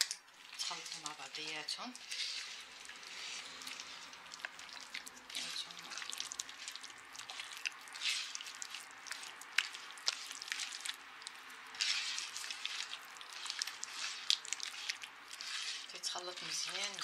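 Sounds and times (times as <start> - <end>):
hand squishing butter in a bowl: 0.0 - 17.0.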